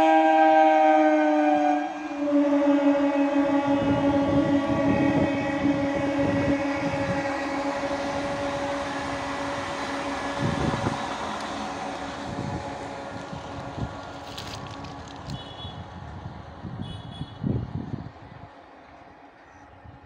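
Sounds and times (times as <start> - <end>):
train horn long note: 0.0 - 19.7
train rumble and wheel clatter: 0.0 - 20.0.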